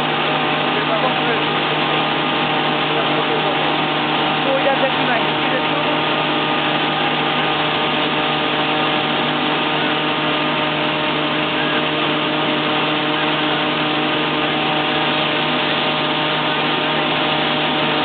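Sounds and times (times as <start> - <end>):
combine harvester running: 0.0 - 18.0.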